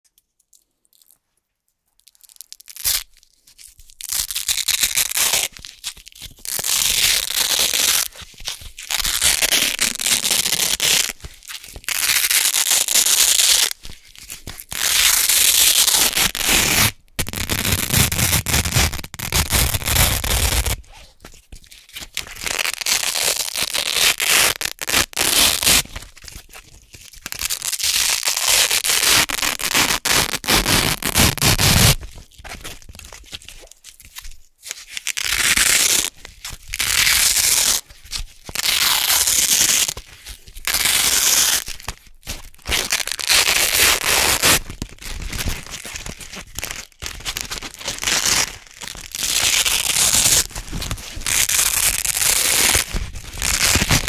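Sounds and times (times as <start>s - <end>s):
velcro strips ripping apart: 2.0s - 21.2s, 21.8s - 34.2s, 34.9s - 54.0s.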